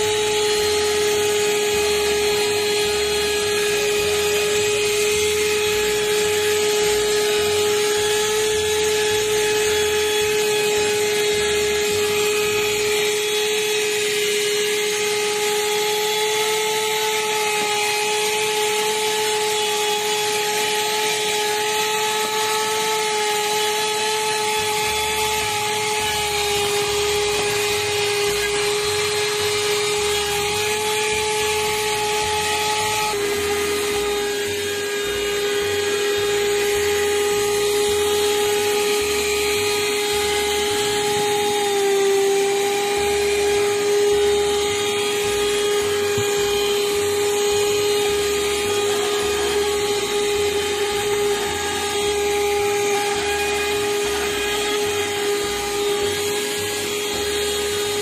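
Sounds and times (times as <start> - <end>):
car vacuum cleaner whine: 0.0 - 58.0.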